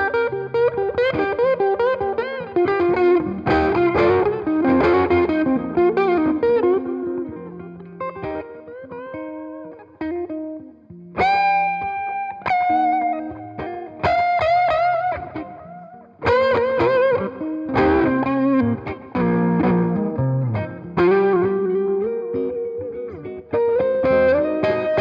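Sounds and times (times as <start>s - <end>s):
electric guitar lead line: 0.0s - 25.0s.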